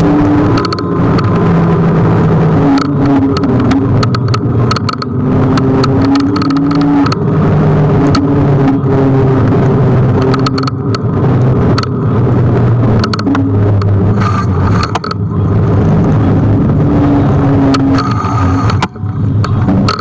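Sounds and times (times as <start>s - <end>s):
electric scooter riding rumble: 0.0s - 20.0s
sharp clicks and rattles: 0.0s - 20.0s.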